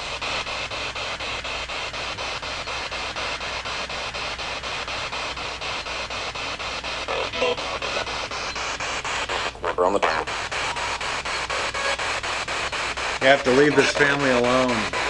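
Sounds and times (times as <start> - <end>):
chopped radio static hiss: 0.0 - 15.0.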